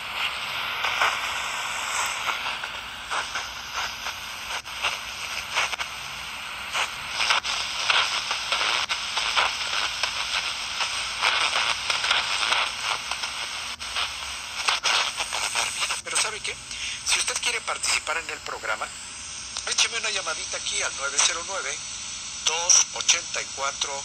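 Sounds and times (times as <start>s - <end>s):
radio static hiss with crackles: 0.0s - 24.0s.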